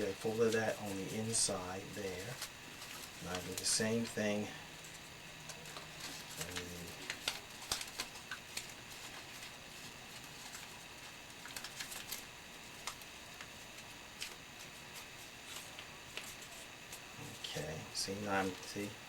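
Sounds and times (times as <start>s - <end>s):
paper crinkling while folded: 0.0s - 19.0s.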